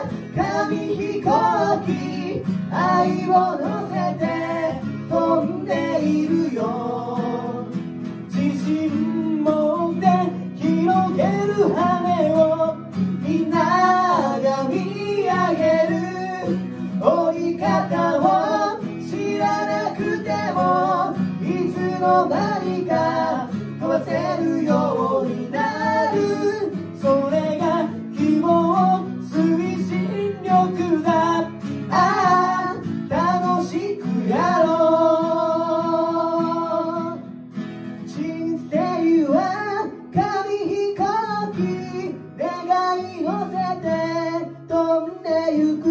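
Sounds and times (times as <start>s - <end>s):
men singing a pop song: 0.0s - 37.2s, 38.0s - 45.9s
strummed acoustic guitars: 0.0s - 45.9s.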